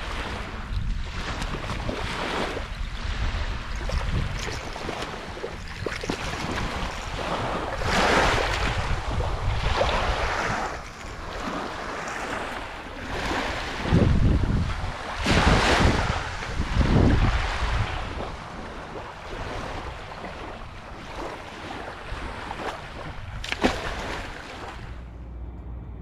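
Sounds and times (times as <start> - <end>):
small waves lapping on beach: 0.0 - 25.0
wind buffeting microphone: 0.0 - 26.0.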